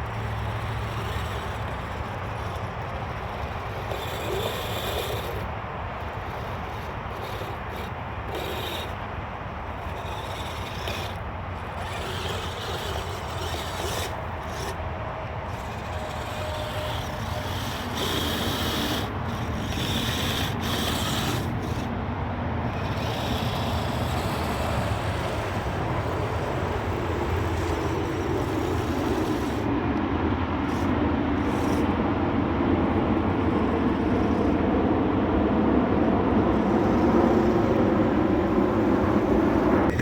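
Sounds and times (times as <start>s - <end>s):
toy tracked vehicle running: 0.0s - 22.0s, 22.6s - 29.7s, 30.6s - 32.1s, 32.7s - 35.5s, 36.1s - 40.0s.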